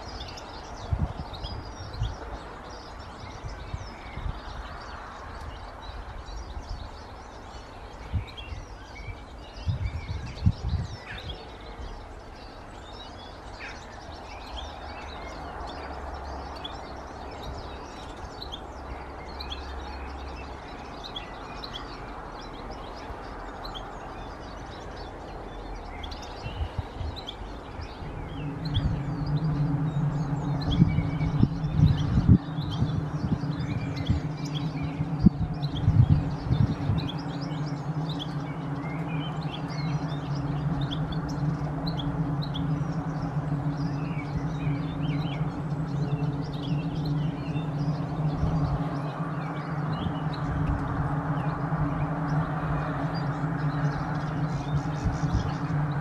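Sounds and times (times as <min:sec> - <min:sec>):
birds chirping: 0:00.0 - 0:56.0
low droning hum: 0:00.0 - 0:56.0
steady background hum: 0:00.0 - 0:56.0.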